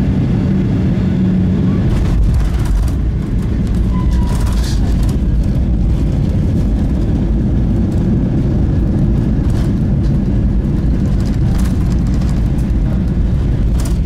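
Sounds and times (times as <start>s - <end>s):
jet engines and wheels rumbling: 0.0s - 14.0s.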